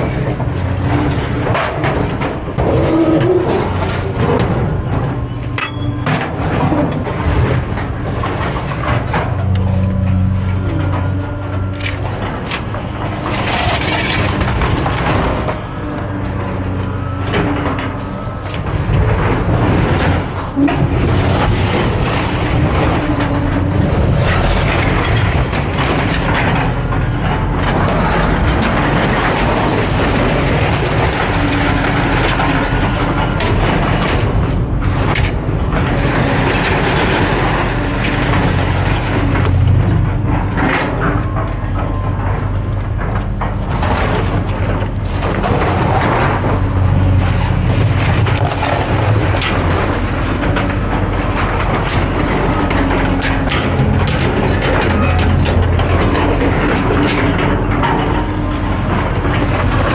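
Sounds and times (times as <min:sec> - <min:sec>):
low machine rumble: 0:00.0 - 0:59.9
scrap metal clanking and scraping: 0:00.0 - 0:59.9.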